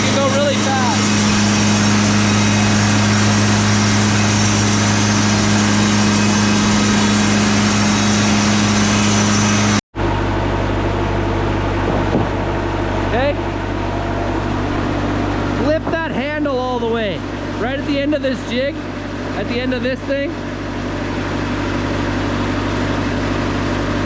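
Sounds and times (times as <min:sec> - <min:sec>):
sawmill engine humming: 0:00.0 - 0:24.0.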